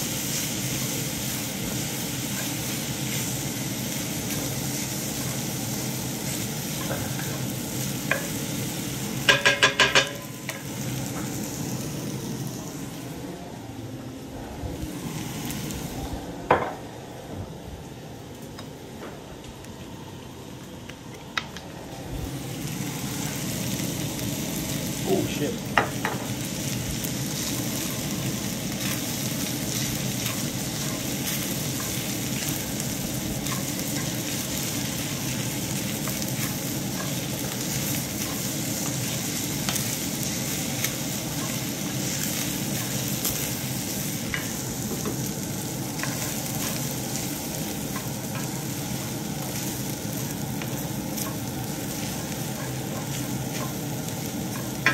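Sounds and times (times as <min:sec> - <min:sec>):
rice sizzling in skillet: 0:00.0 - 0:13.2, 0:14.8 - 0:16.7, 0:21.9 - 0:54.9.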